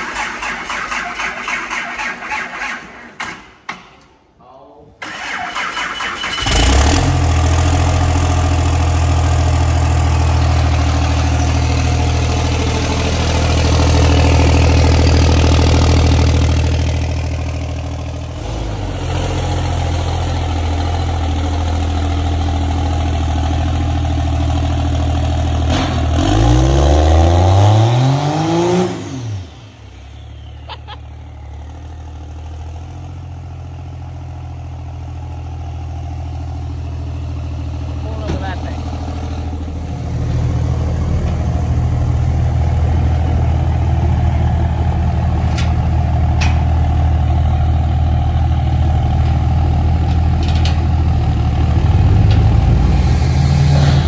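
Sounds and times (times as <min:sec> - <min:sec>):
pickup engine idling and revving: 0:06.3 - 0:54.0.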